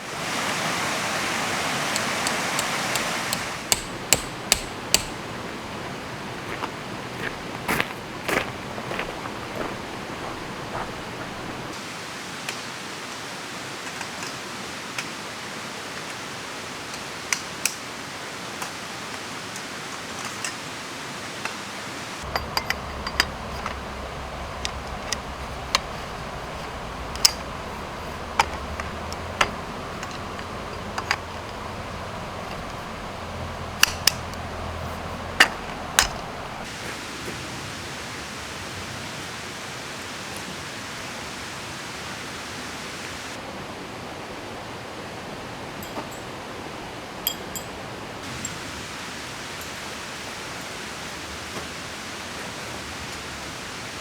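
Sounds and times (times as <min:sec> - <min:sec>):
rain hissing: 0:00.0 - 0:43.8, 0:48.2 - 0:54.0
flowing river: 0:00.0 - 0:54.0.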